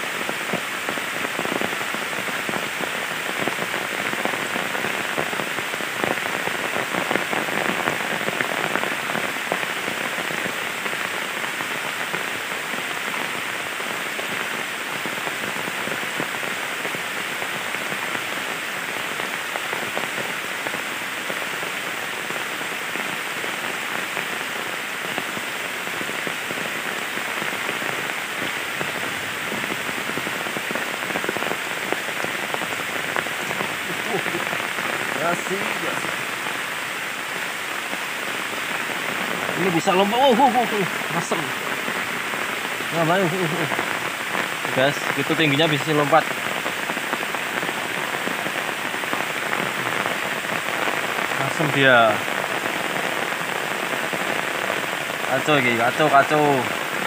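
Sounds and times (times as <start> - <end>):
heavy rain falling on pond: 0.0 - 57.0.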